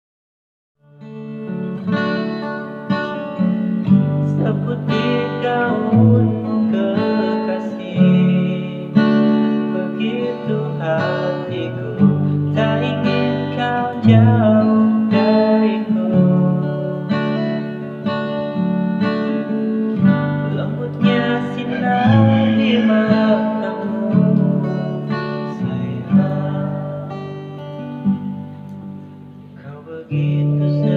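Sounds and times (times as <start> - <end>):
acoustic guitar strumming: 0.8 - 30.9.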